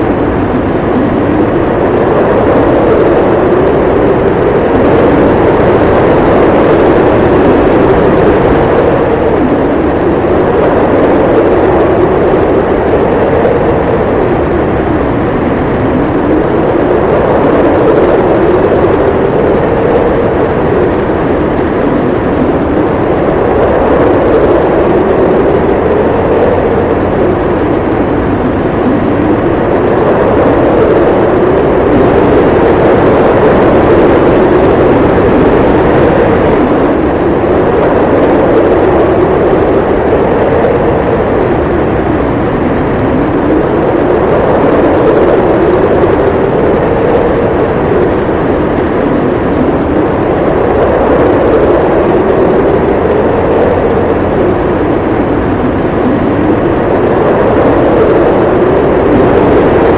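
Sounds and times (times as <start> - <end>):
snowstorm wind howling: 0.0 - 59.9.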